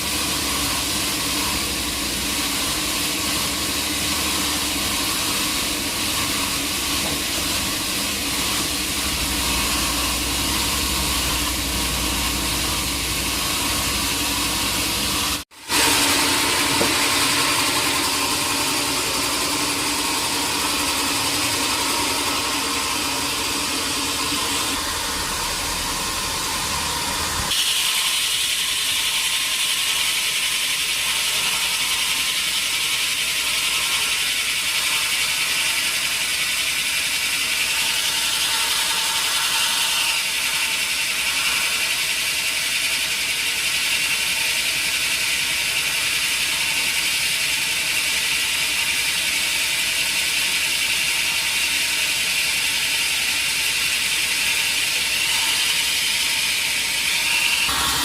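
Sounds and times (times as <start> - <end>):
sawmill machinery hissing and humming: 0.0 - 58.0.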